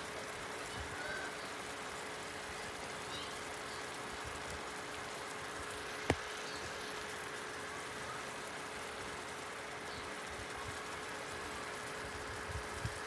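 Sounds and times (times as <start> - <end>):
faint steady hum: 0.0 - 13.0
stew cooking with steady hiss: 0.0 - 13.0.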